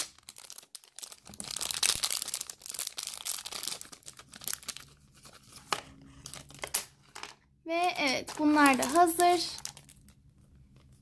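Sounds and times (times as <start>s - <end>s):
plastic packaging crinkling and tearing: 0.0s - 7.0s, 7.8s - 11.0s.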